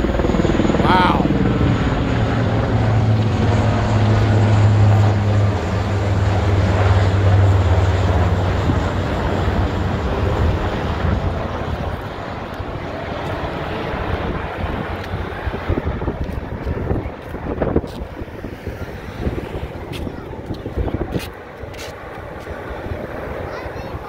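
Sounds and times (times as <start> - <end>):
low propeller drone: 0.0 - 24.0.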